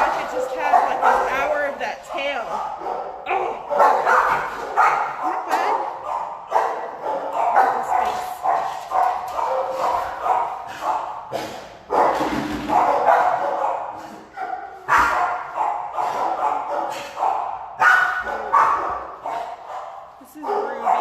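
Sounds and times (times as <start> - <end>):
dogs barking and yipping: 0.0 - 21.0.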